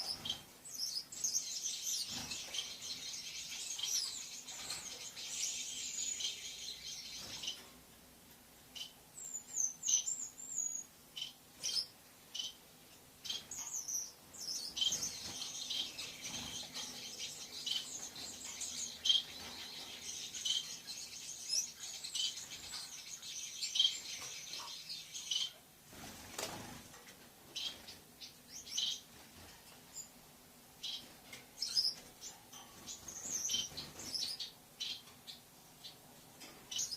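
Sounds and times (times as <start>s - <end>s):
lovebird chirping: 0.0s - 7.7s, 8.7s - 12.6s, 13.2s - 25.6s, 27.6s - 29.1s, 30.8s - 36.0s.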